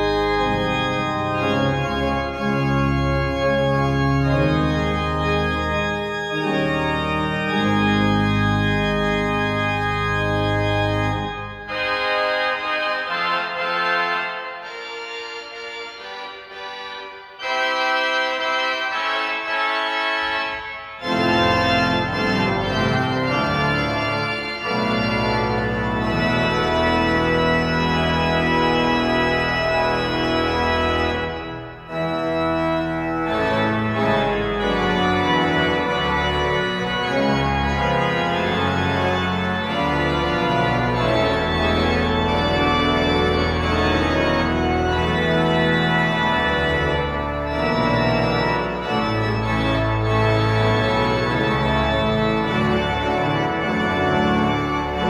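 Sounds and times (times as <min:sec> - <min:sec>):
church organ chords: 0:00.0 - 0:55.0
deep organ bass notes: 0:00.0 - 0:55.0.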